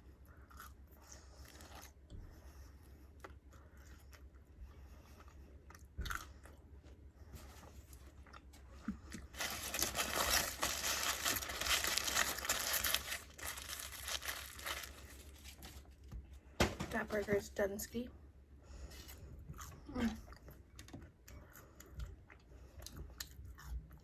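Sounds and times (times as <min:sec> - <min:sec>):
crunching and chewing: 0:00.0 - 0:16.1, 0:18.9 - 0:24.0.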